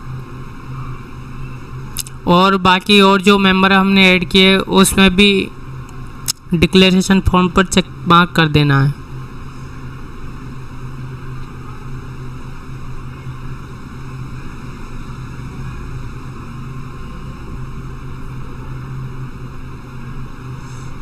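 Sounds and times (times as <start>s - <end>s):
low even hum: 0.0s - 21.0s.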